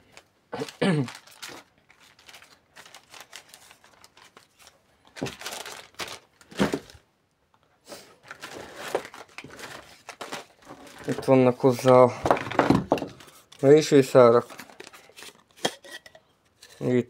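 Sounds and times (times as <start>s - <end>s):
packaging rustling and crinkling: 0.0s - 7.0s, 8.1s - 15.6s.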